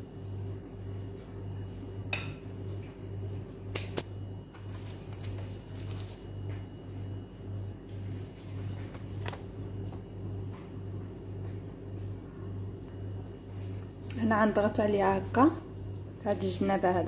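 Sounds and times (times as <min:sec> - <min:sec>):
low pulsing hum: 0:00.0 - 0:17.0.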